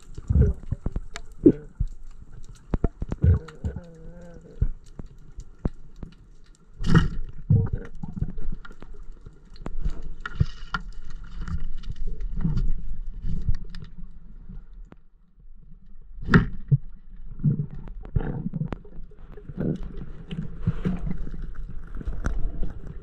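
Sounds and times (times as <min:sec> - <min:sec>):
muffled underwater rumble: 0:00.0 - 0:23.0.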